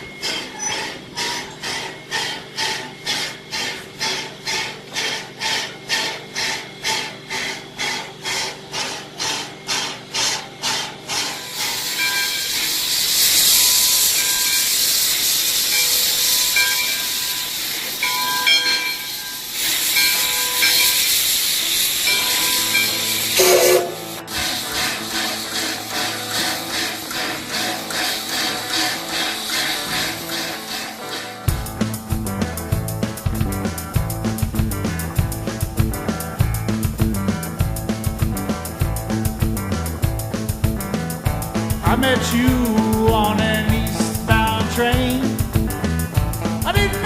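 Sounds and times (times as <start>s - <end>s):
steam hissing: 0.0s - 47.0s
steam locomotive chuffing: 0.0s - 47.0s.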